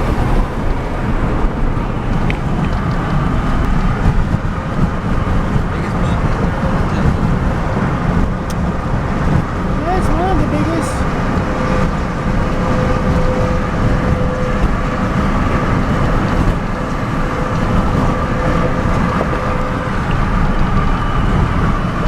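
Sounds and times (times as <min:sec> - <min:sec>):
truck cabin road rumble: 0:00.0 - 0:22.0.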